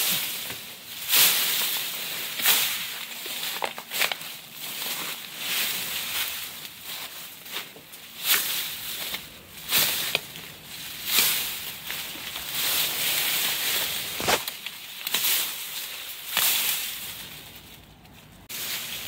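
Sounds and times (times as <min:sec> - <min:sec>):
bamboo leaves rustling: 0:00.0 - 0:19.0.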